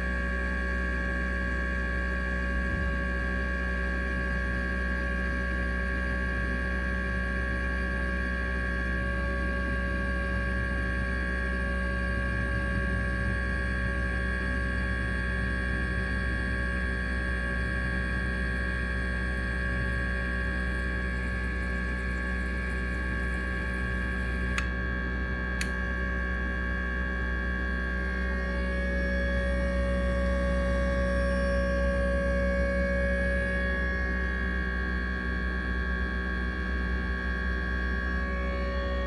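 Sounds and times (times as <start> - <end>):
steady electric hum: 0.0 - 39.0.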